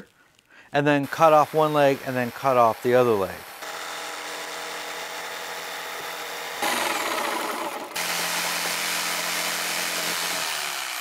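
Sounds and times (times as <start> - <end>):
jigsaw sawing wood: 1.0 - 11.0.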